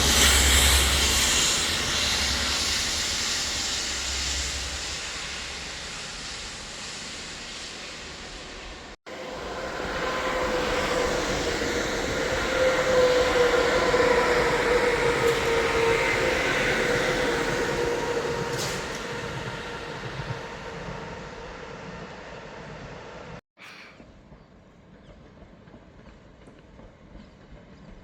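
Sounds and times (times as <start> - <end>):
train rumble: 0.0 - 23.4, 24.1 - 28.0
train whining tone: 0.0 - 23.4.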